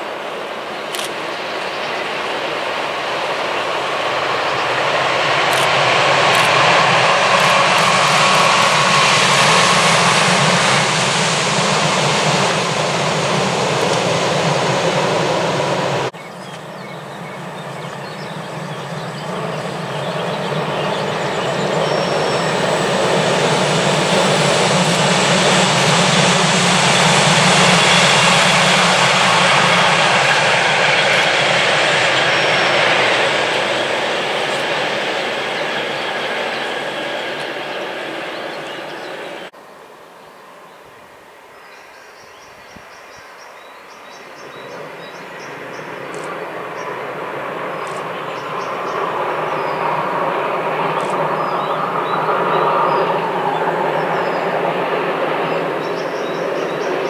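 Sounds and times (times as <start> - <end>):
train passing close by: 0.0 - 57.0.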